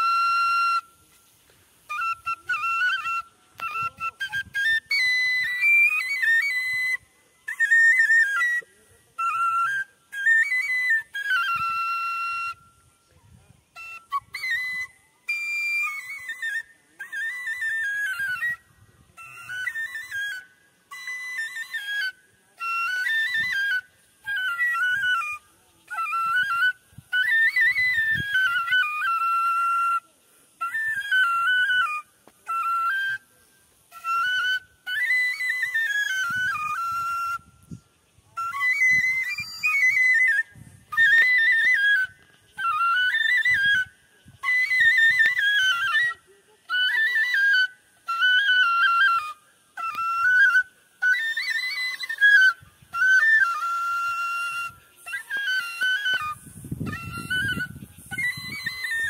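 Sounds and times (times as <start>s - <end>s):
bamboo flute melody: 0.0s - 59.0s.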